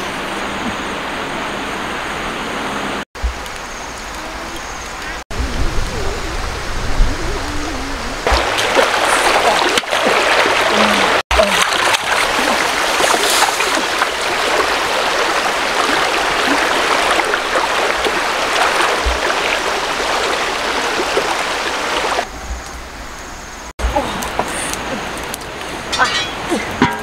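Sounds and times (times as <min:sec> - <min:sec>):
shallow river water rushing: 0:00.0 - 0:22.3.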